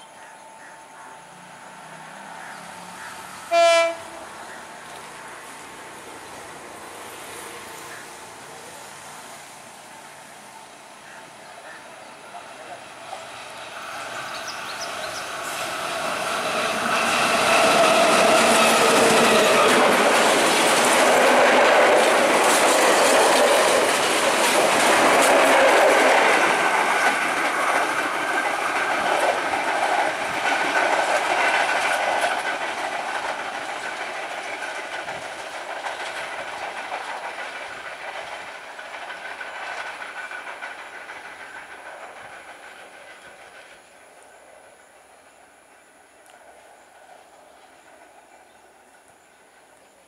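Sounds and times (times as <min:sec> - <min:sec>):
train coaches rattling past: 0:00.0 - 0:50.0
wheels clicking over rail joints: 0:01.8 - 0:08.8, 0:12.0 - 0:50.0.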